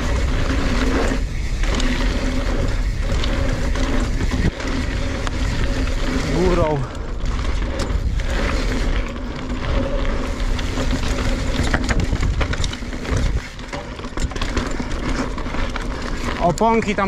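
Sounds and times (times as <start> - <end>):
bike rattling and knocking: 0.0 - 17.0
tyres rolling over trail: 0.0 - 17.0
wind rumbling on microphone: 0.0 - 17.0.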